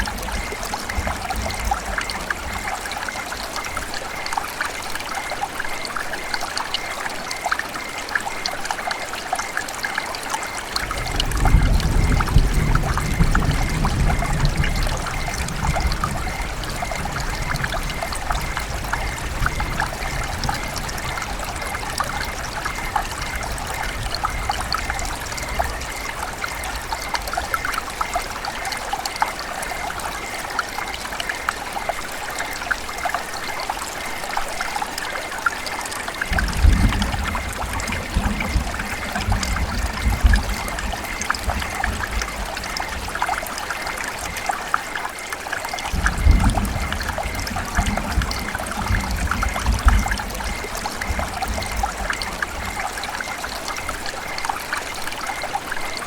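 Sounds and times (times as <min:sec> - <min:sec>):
river water running and trickling: 0:00.0 - 0:56.0.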